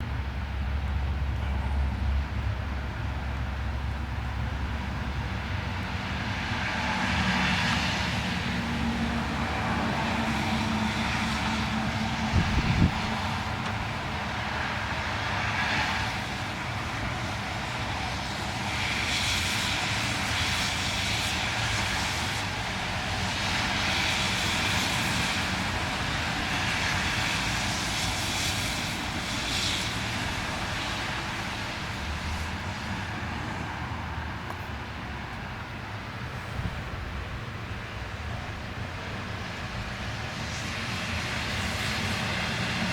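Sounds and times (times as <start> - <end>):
blizzard hiss: 0.0 - 42.9.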